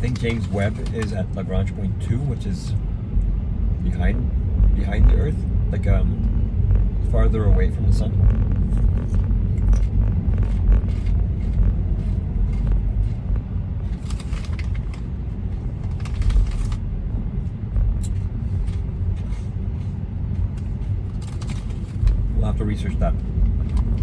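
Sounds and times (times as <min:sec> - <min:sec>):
car tyres and engine rumble: 0:00.0 - 0:24.0.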